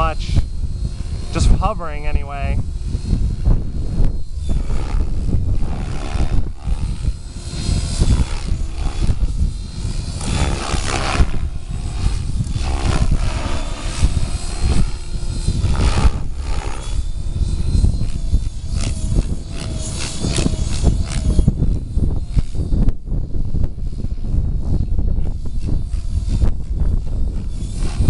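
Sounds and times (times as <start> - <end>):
rc helicopter rotor and motor whine: 0.0 - 28.0
wind buffeting microphone: 0.0 - 28.0.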